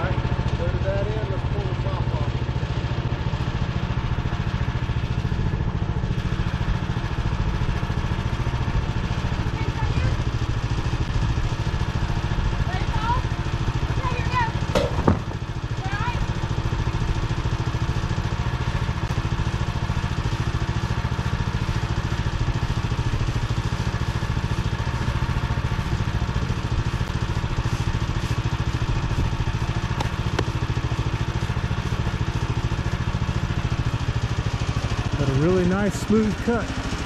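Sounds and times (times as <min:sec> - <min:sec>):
sawmill engine running: 0:00.0 - 0:37.0.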